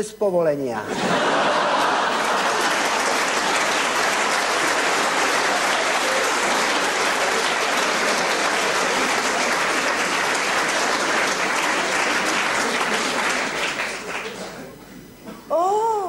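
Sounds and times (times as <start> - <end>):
audience applauding: 0.9 - 14.7.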